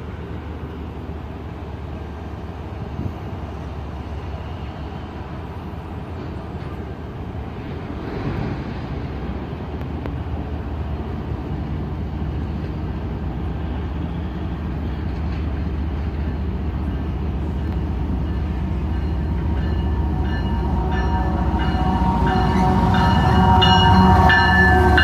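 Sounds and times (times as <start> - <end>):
diesel locomotives rumbling: 0.0 - 25.0.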